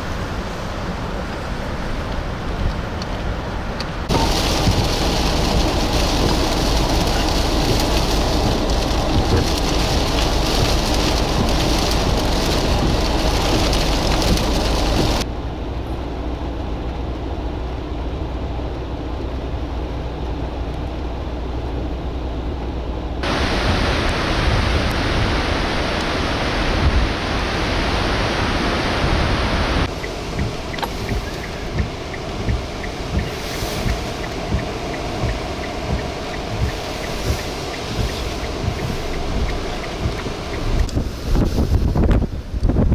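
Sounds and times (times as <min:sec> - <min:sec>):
strong wind buffeting microphone: 0:00.0 - 0:15.3, 0:23.2 - 0:42.9.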